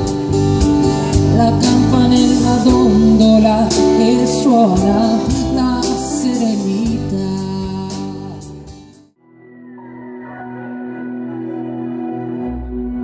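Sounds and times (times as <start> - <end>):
live pop band playing: 0.0 - 13.0.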